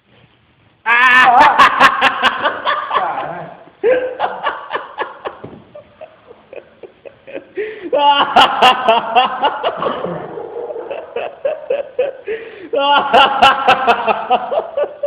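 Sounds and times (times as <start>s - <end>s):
person laughing: 0.9s - 15.0s.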